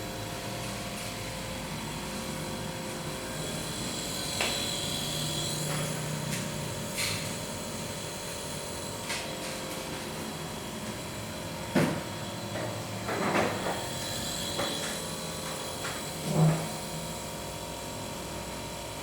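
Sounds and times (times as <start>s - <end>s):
nebulizer compressor humming: 0.0s - 19.0s.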